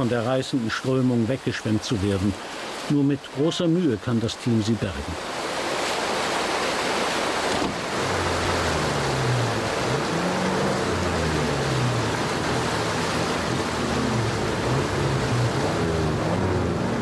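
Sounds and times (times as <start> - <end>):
fast river rushing: 0.0 - 17.0.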